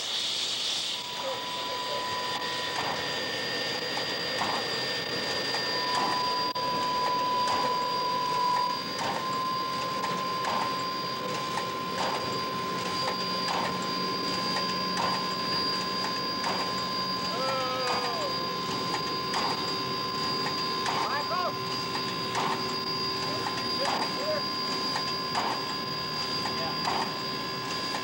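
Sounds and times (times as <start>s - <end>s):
steam hissing: 0.0s - 6.4s, 7.0s - 28.0s.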